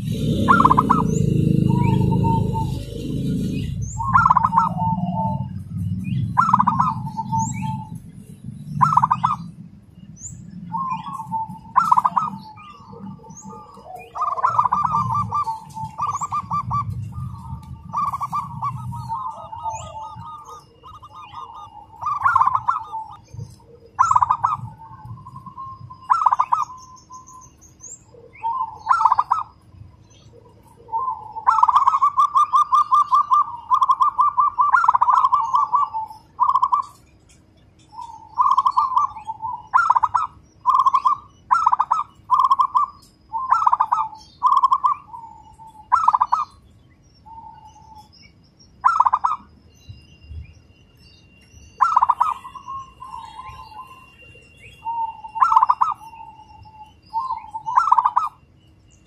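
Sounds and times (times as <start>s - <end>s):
dove cooing: 0.0s - 37.2s, 37.9s - 46.7s, 48.8s - 49.5s, 51.8s - 58.4s
small birds chirping: 0.0s - 59.0s.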